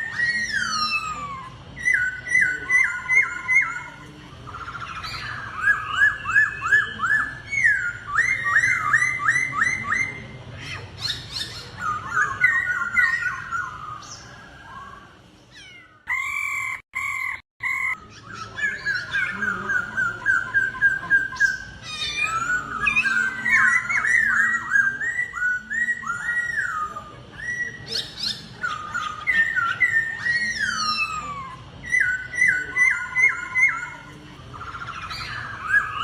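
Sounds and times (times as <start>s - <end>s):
bird singing whistled notes: 0.0s - 10.4s, 16.1s - 36.0s.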